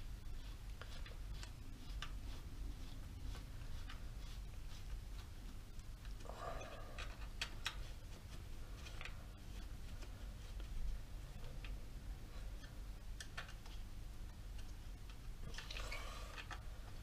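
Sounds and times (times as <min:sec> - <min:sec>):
low steady hum: 0:00.0 - 0:17.0
rustling: 0:00.0 - 0:17.0.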